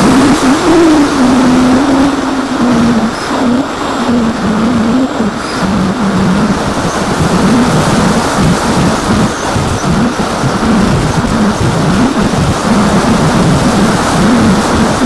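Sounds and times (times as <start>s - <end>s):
electric motor and propeller hum: 0.0s - 15.0s
wind rush on microphone: 0.0s - 15.0s.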